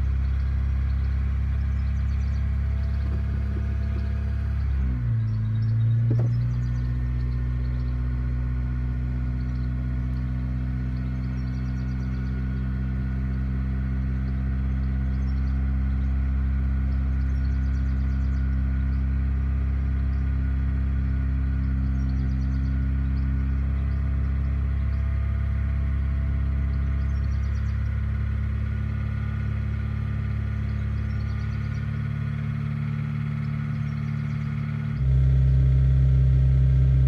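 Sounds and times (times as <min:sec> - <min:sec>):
car engine fast-idling: 0:00.0 - 0:37.0.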